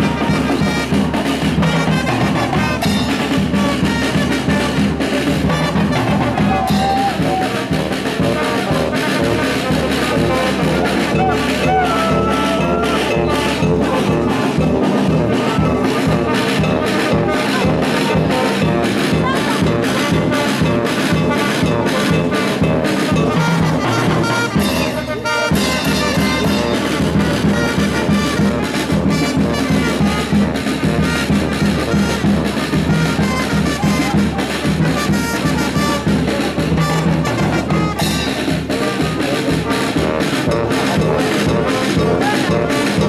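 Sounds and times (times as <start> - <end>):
brass band music: 0.0 - 43.0.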